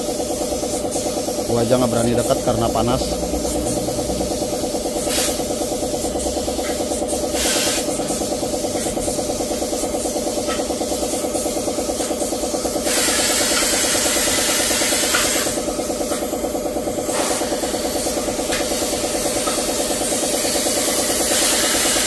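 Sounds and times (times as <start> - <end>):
cutting torch hissing: 0.0 - 22.0
motor running with pulsing beat: 0.0 - 22.0.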